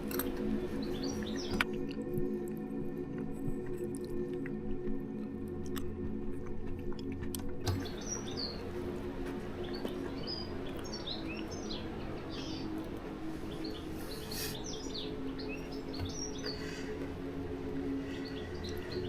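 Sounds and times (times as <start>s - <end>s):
low steady hum: 0.0s - 19.0s
songbirds chirping: 0.0s - 19.0s.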